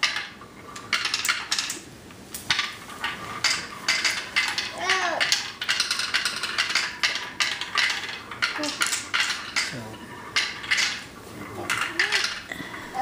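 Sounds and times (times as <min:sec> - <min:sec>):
marbles rattling down a track: 0:02.5 - 0:13.0.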